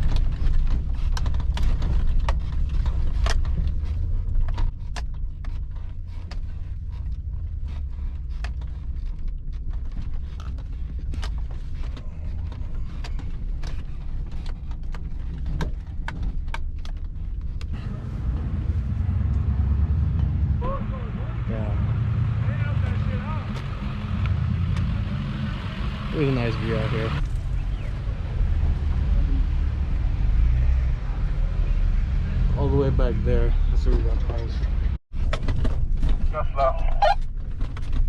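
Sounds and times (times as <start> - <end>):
truck engine rumble: 0.0 - 38.0.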